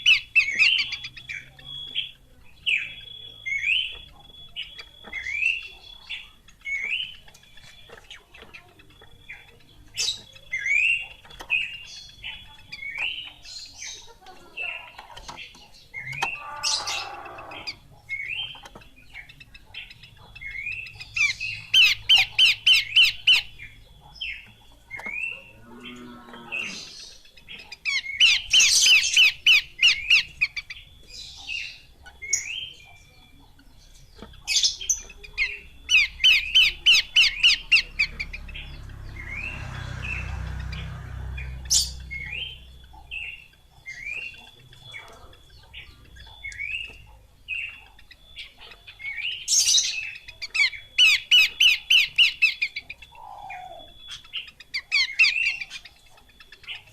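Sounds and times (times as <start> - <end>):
bird singing rapid repeated notes: 0.0 - 56.9.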